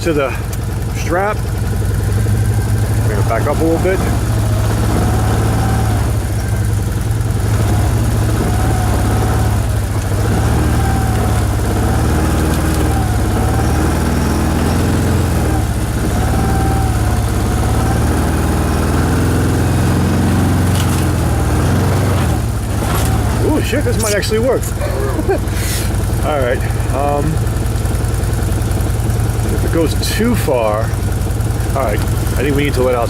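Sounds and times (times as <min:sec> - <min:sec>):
vehicle engine running at low revs: 0:00.0 - 0:33.0.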